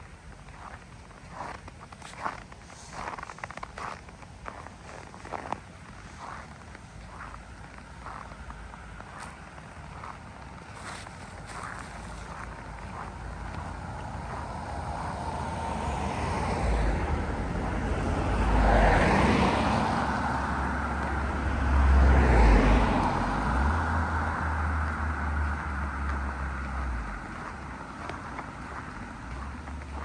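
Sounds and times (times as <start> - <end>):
vehicles driving past: 0.0 - 30.0.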